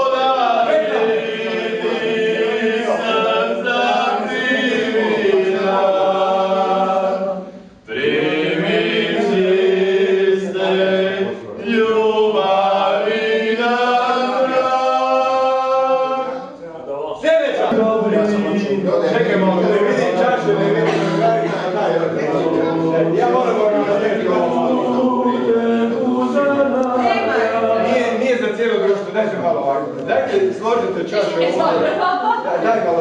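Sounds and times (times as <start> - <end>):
group singing unaccompanied: 0.0 - 16.6, 17.2 - 33.0.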